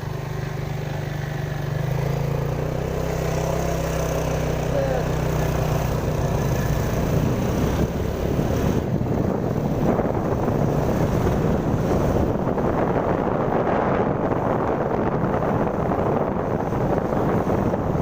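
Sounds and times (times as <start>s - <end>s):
road traffic: 0.0s - 18.0s
vehicle engine running: 0.0s - 18.0s
wind buffeting microphone: 0.0s - 18.0s.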